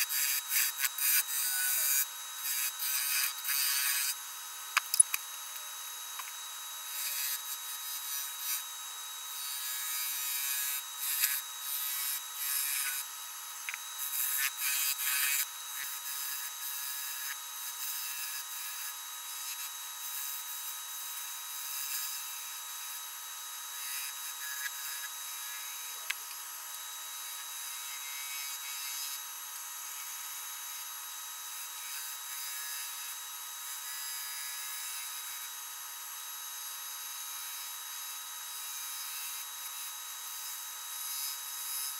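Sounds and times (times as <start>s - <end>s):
wood lathe whine: 0.0s - 41.9s.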